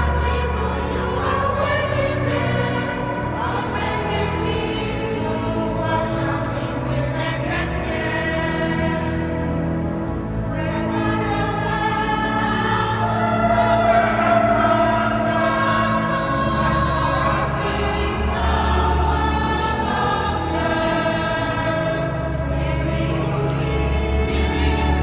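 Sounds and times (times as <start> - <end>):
church choir singing: 0.0 - 25.0.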